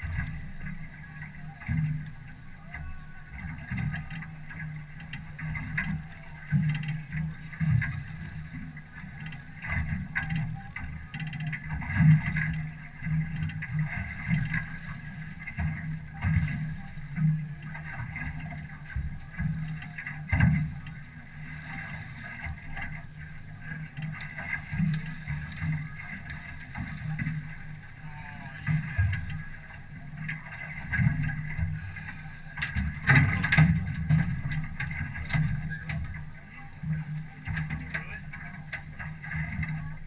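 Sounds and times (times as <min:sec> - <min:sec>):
water slapping against boat hull: 0:00.0 - 0:40.0.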